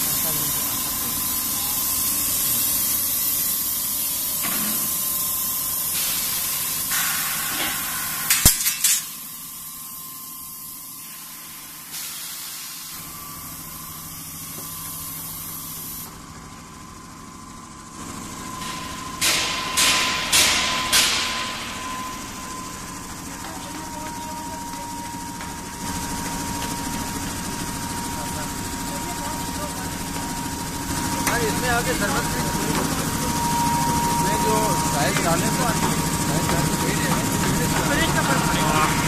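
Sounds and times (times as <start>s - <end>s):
machinery hiss with high whine: 0.0s - 16.5s, 17.1s - 39.0s.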